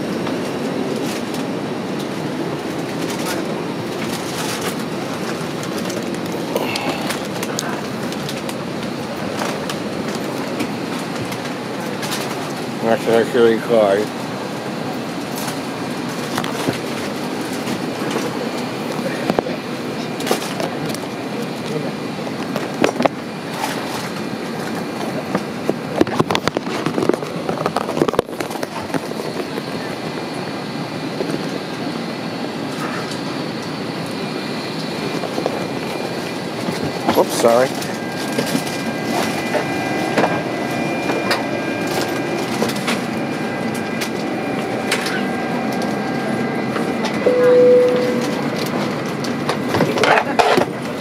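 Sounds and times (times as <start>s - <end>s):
faint high air system whine: 0.0s - 51.0s
steady background hum: 0.0s - 51.0s.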